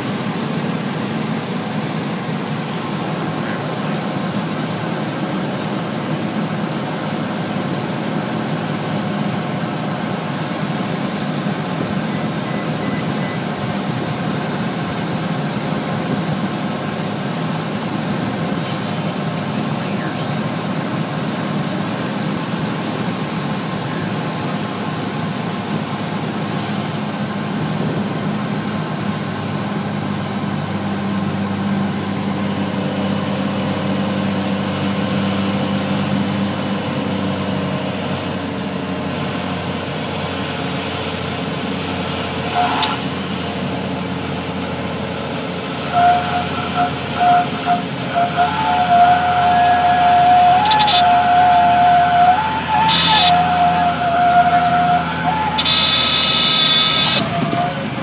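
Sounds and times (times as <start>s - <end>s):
airplane piston engine and propeller: 0.0s - 58.0s.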